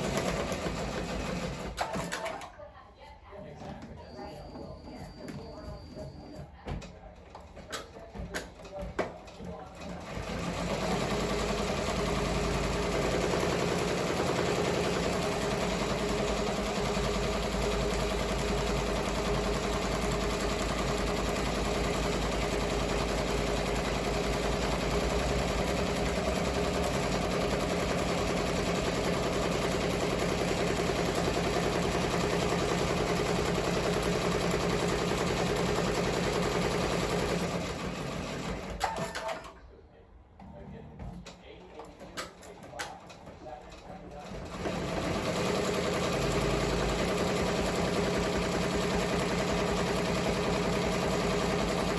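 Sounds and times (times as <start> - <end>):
embroidery machine stitching: 0.0 - 2.5, 9.5 - 39.5, 42.0 - 51.9.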